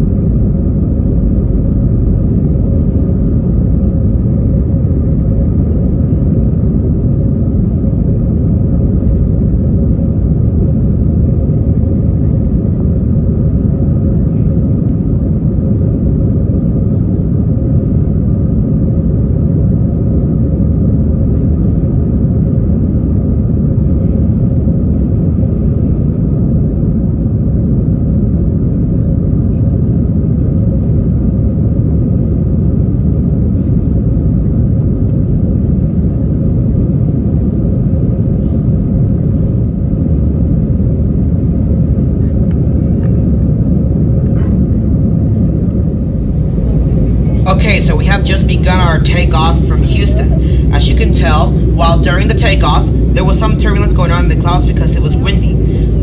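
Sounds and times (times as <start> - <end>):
rushing air: 0.0 - 19.5, 22.3 - 27.2, 32.1 - 56.0
faint steady hum: 0.0 - 56.0
jet engine cabin rumble: 0.0 - 56.0.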